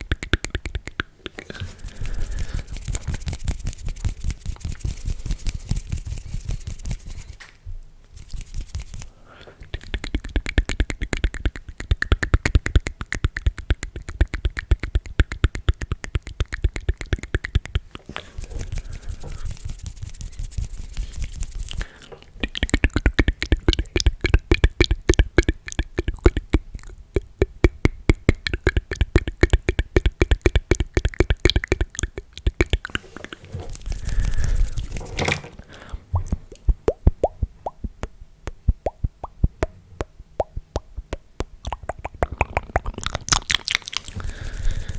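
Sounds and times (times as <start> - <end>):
mouth clicks close to microphone: 0.0 - 7.0, 8.2 - 44.9.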